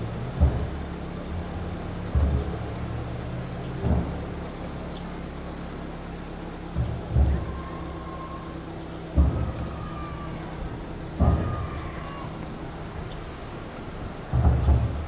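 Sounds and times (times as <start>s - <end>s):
dull low thuds: 0.0s - 5.1s, 6.2s - 15.0s.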